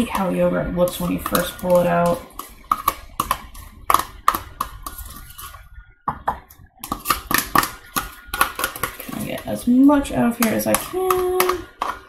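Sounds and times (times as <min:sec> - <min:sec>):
spoon scraping plastic tub: 0:00.0 - 0:12.0.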